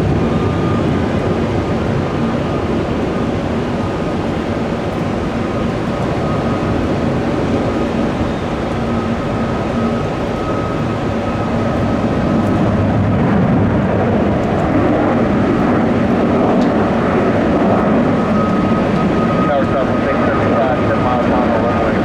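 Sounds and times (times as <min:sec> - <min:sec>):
jet engines with high whine: 0:00.0 - 0:22.0.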